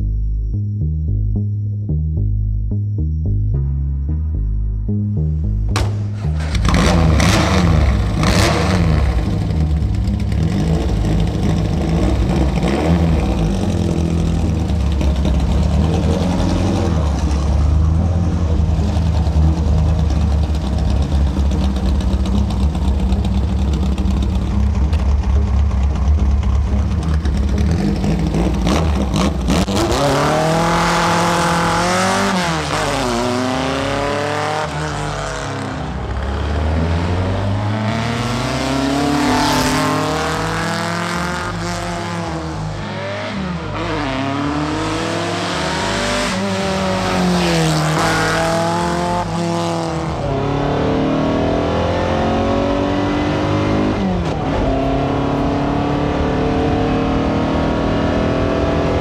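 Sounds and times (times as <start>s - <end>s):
car engine deep rumble revving: 0.0s - 59.0s.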